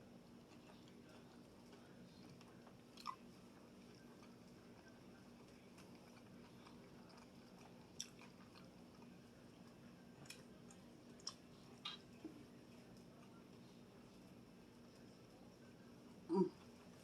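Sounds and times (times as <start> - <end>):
chewing soft food: 0.0 - 17.0.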